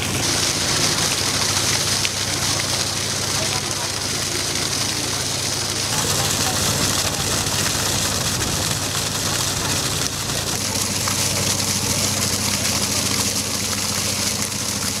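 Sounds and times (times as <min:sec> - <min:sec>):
truck engine humming: 0:00.0 - 0:15.0
water gushing from hose: 0:00.0 - 0:15.0.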